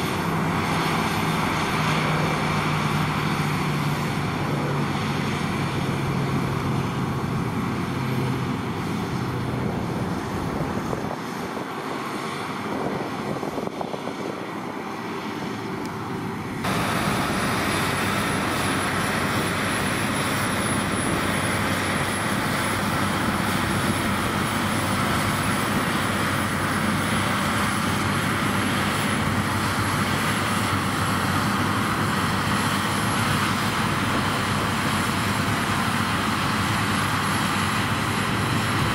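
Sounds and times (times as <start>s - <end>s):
combine harvester drone: 0.0s - 38.9s
tractor engine: 0.0s - 38.9s.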